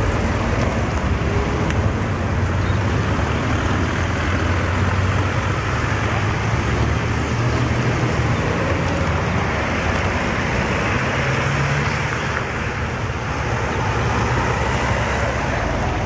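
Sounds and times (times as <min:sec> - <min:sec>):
cars passing: 0:00.0 - 0:16.0
diesel engine hum: 0:00.0 - 0:16.0.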